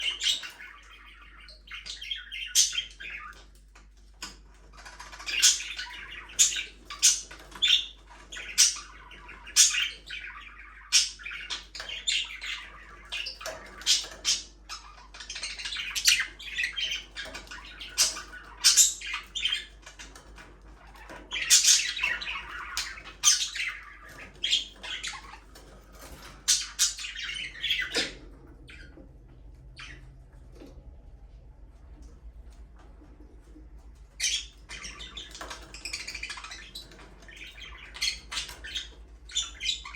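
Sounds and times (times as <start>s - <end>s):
budgerigars chattering and squawking: 0.0s - 30.3s, 33.7s - 39.9s.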